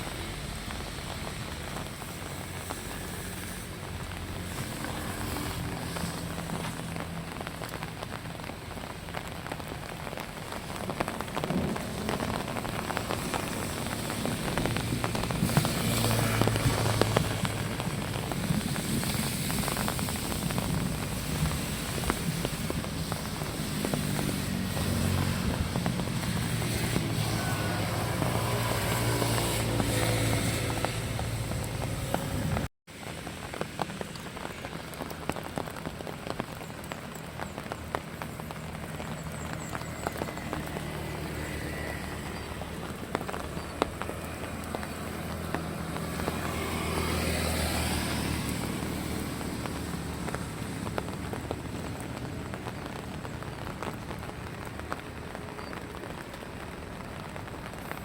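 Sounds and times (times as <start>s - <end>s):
rain pattering: 0.0s - 58.0s
vehicle passing on wet road: 0.0s - 58.0s.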